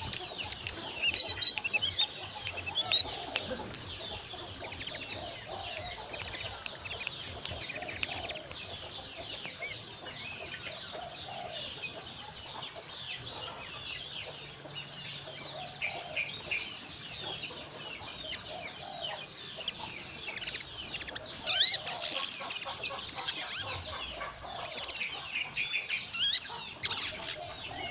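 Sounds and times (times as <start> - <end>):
bird twittering chirps and trills: 0.0 - 27.9.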